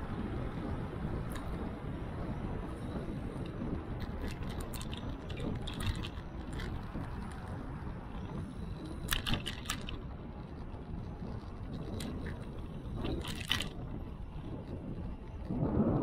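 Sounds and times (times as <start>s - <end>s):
bicycle rattling and clicking: 0.0s - 15.6s
wind and tyres rumbling: 0.0s - 16.0s.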